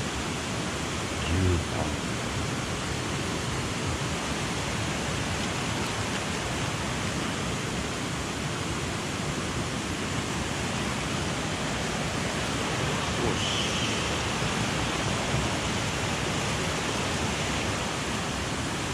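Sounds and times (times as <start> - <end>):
stream rushing: 0.0 - 18.9.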